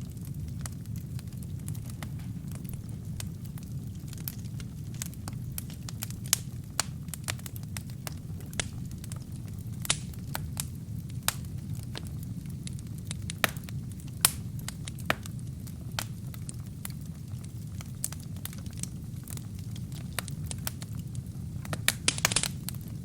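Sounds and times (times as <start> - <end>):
wood crackling in fireplace: 0.0 - 23.0.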